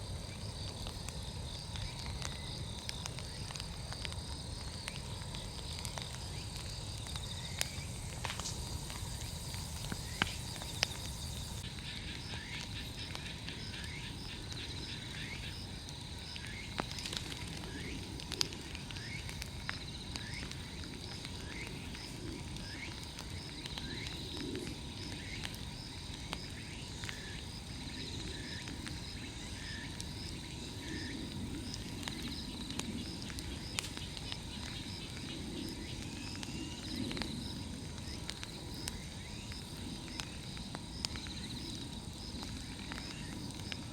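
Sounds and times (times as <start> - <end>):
bonfire crackling and popping: 0.0 - 43.9
insect trill: 0.0 - 43.9.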